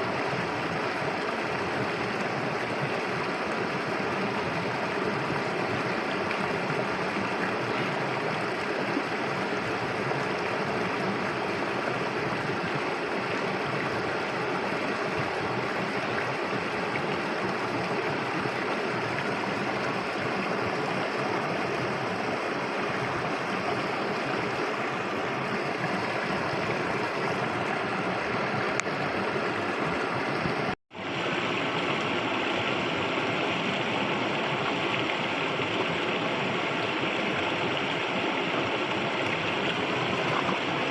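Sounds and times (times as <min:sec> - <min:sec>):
flowing river water: 0:00.0 - 0:40.9.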